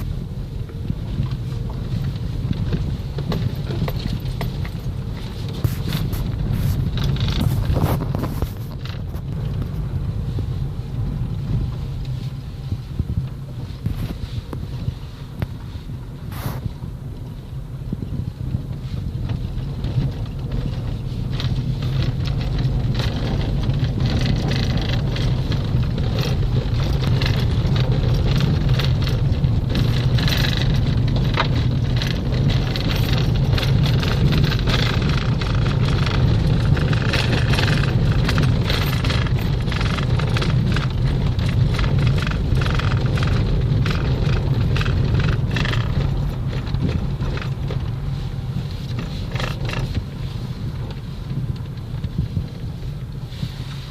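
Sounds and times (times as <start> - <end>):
small rattles and clicks: 0.0 - 15.8, 17.9 - 53.9
vehicle engine and road hum: 0.0 - 53.9.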